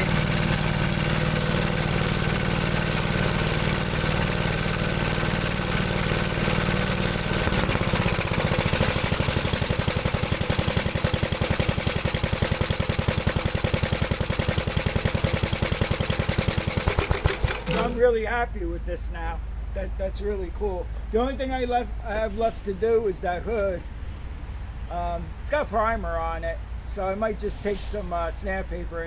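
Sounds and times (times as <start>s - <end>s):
tractor engine running: 0.0s - 23.8s.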